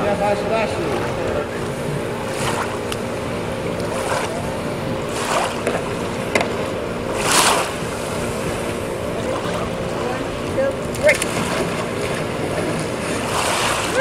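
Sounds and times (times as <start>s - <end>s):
steady background hum: 0.0s - 14.0s
water splashing and sloshing: 0.7s - 14.0s.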